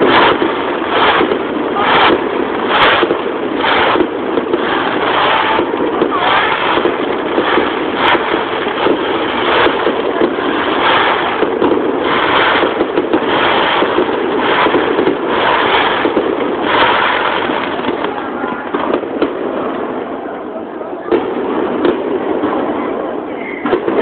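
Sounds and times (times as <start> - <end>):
firework shells bursting: 0.0 - 19.9
firework crackling: 0.0 - 24.0.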